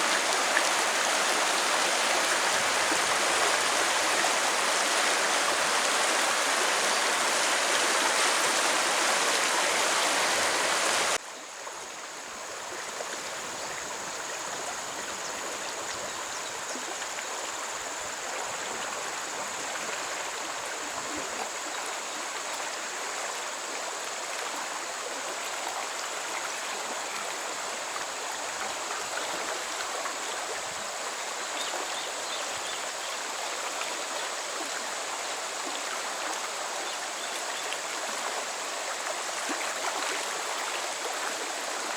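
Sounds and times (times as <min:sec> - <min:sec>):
stream water rushing: 0:00.0 - 0:16.0, 0:17.0 - 0:41.9.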